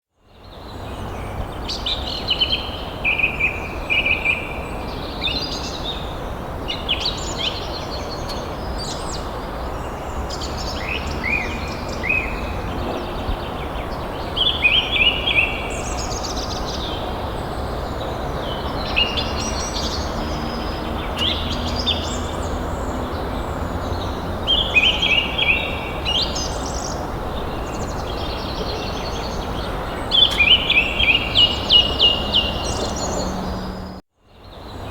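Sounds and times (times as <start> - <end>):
songbirds chirping: 0.2 - 34.9.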